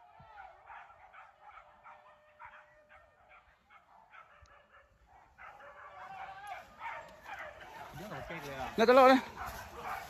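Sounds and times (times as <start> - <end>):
distant dogs yelping: 0.0 - 10.0.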